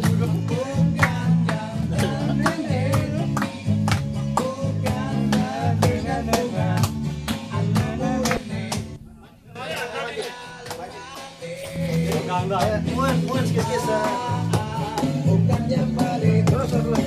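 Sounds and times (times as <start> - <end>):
bass: 0.0 - 17.0
guitar: 0.0 - 17.0
steady beat: 0.0 - 17.0.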